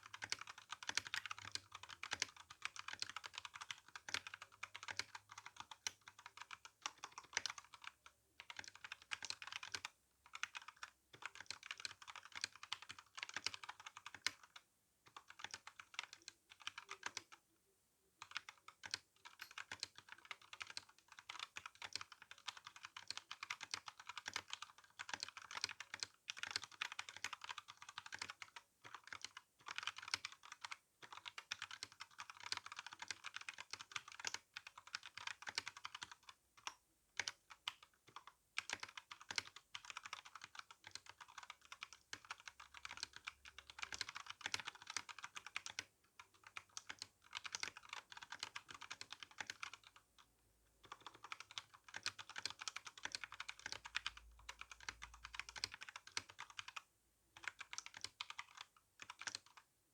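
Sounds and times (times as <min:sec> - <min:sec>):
mechanical keyboard typing: 0:00.0 - 0:17.4, 0:18.2 - 0:50.0, 0:50.8 - 0:59.6.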